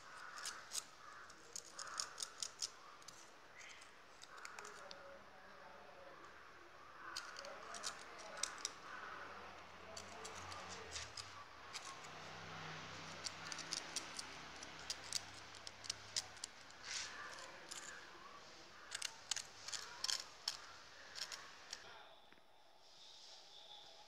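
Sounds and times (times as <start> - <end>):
kitten biting dry orchid roots: 0.0 - 5.1, 7.0 - 21.8.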